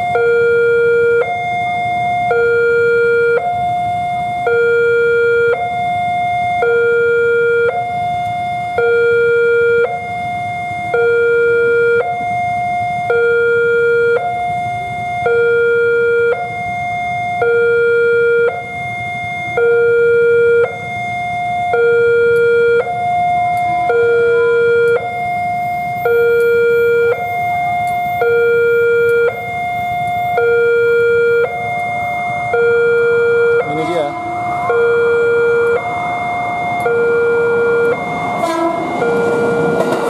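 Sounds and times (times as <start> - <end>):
level crossing alarm two tones: 0.0 - 40.0.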